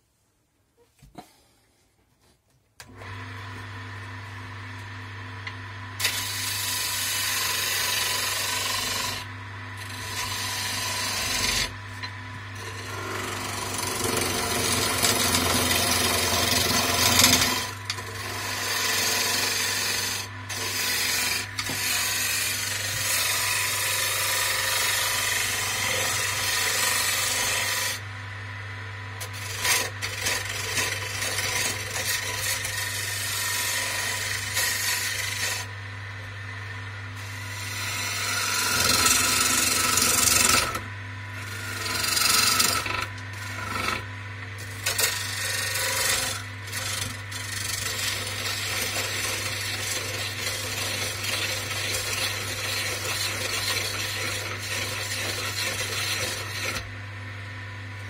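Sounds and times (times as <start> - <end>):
gouge cutting spinning wood: 2.8 - 57.0
wood lathe motor humming: 2.8 - 58.0.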